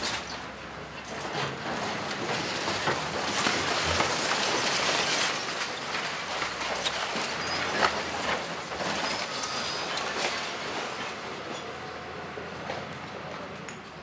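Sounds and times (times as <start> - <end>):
debris crunching under loader: 0.0 - 14.0.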